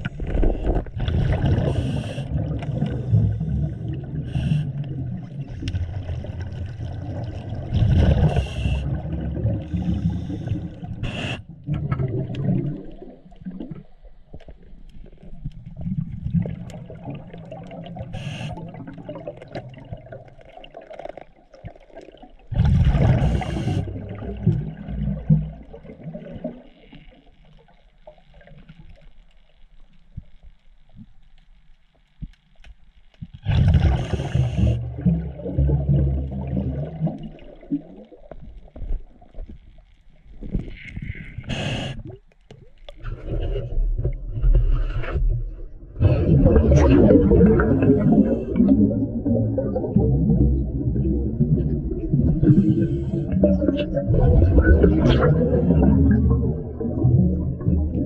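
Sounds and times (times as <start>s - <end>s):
underwater exhaled bubbles gurgling: 0.0s - 29.2s, 33.4s - 58.0s.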